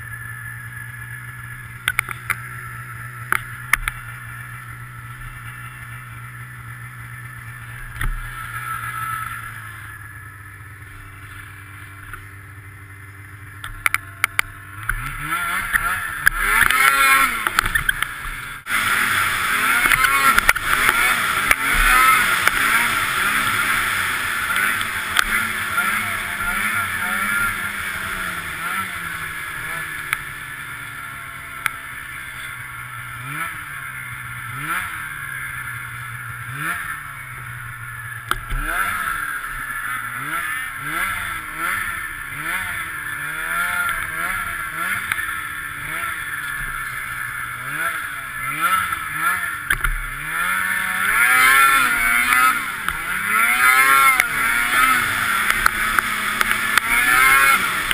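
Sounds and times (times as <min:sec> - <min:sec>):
snowmobile engine revving: 0:00.0 - 0:57.9.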